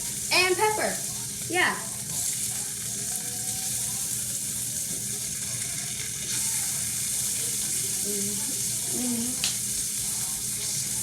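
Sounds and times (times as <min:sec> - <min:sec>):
sausages sizzling in a pan: 0:00.0 - 0:11.0.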